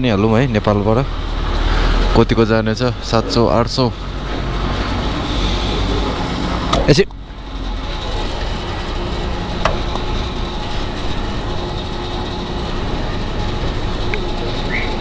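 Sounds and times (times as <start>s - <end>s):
fuel pump humming: 0.0s - 15.0s.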